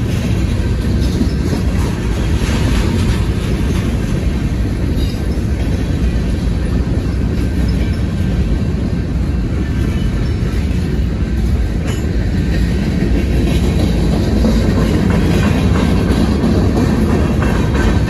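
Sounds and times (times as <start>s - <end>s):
freight train wheels rumbling: 0.0s - 18.0s
wheels clicking over rail joints: 0.0s - 18.0s.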